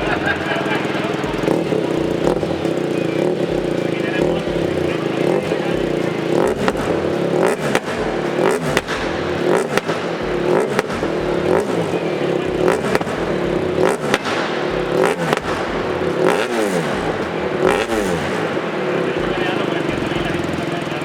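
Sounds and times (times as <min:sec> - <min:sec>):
exhaust pops: 0:00.0 - 0:21.0
motorcycle engine revving: 0:00.0 - 0:21.0.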